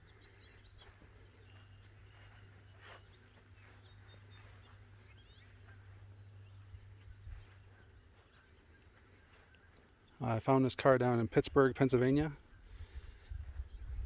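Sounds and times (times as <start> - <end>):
faint bird chirps: 0.0 - 10.3, 12.4 - 14.0
low steady hum: 0.0 - 11.4.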